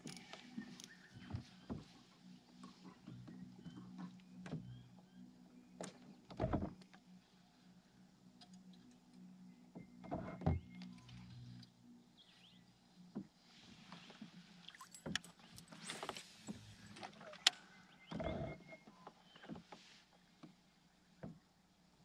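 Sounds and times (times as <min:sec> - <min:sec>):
knocks and clicks against hull: 0:00.0 - 0:05.0, 0:05.8 - 0:07.1, 0:08.4 - 0:11.7, 0:13.1 - 0:21.6.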